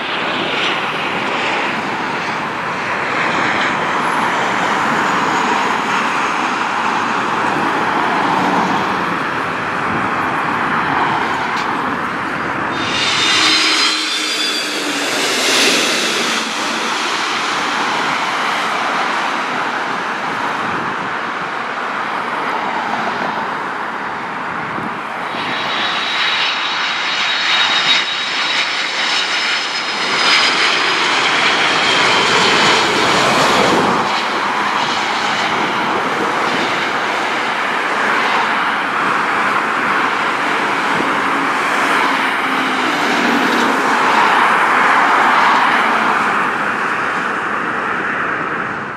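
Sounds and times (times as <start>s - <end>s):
jet engine whine: 0.0s - 48.9s
jet engines rushing overhead: 0.0s - 48.9s.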